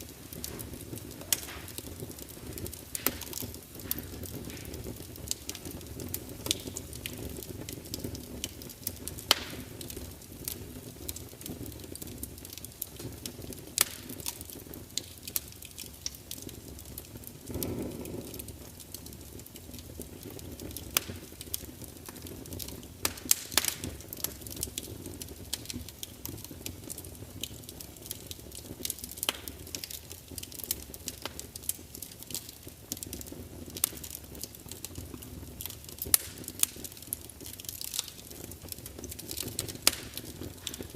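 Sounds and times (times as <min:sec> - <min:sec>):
fire crackling and popping: 0:00.0 - 0:40.9
fire low rumble: 0:00.0 - 0:40.9.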